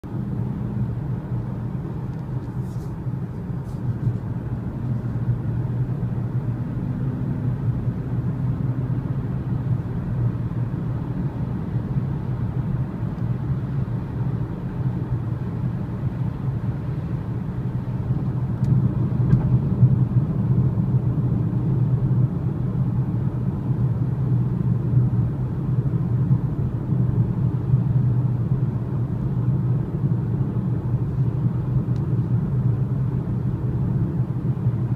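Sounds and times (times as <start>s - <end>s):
car cabin road and engine rumble: 0.0s - 34.9s.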